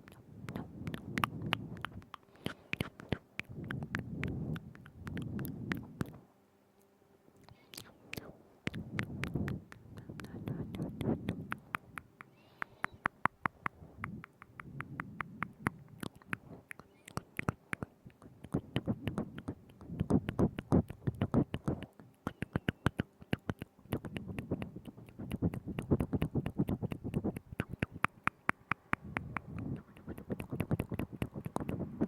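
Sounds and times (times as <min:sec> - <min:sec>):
wet tongue and lip clicks: 0:00.0 - 0:06.2, 0:07.4 - 0:32.0.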